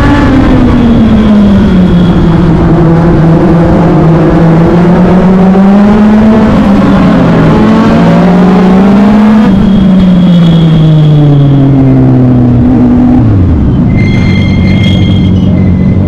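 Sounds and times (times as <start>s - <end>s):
race car engine running hard: 0.0s - 16.0s.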